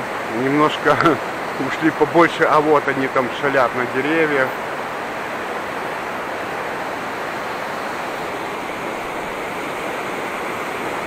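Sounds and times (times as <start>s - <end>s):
fast river rushing: 0.0s - 11.0s.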